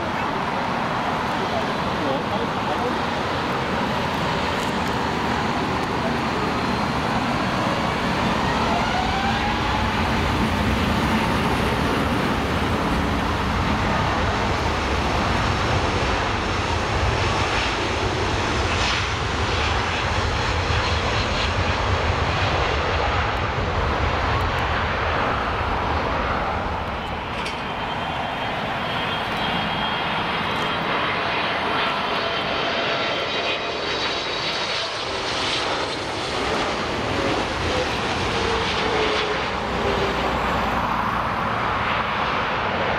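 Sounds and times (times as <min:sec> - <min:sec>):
landing jet engine whine: 0:00.0 - 0:42.9
loud jet roar: 0:00.0 - 0:42.9
jet engines spooling up: 0:00.1 - 0:16.7, 0:22.6 - 0:42.9.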